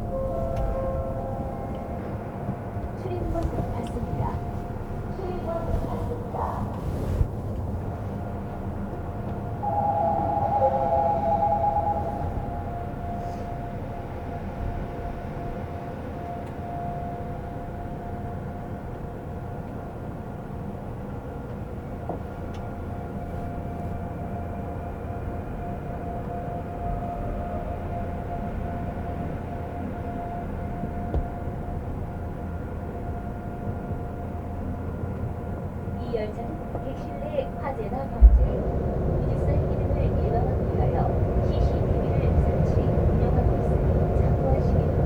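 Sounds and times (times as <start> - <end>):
subway train rumble: 0.0 - 45.0
train drive whine: 0.0 - 45.0.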